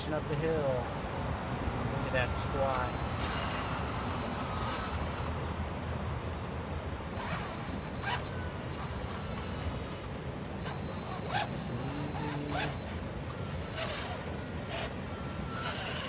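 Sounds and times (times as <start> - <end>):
small electric winch whining: 0.8 - 5.5, 7.1 - 16.0.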